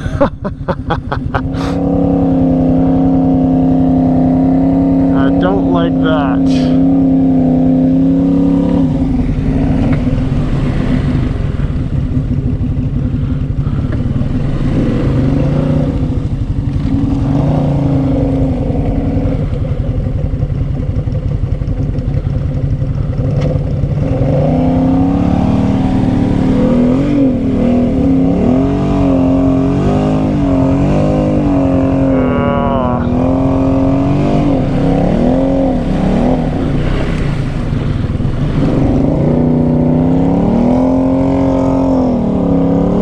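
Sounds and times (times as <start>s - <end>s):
atv engine revving under load: 0.0s - 43.0s.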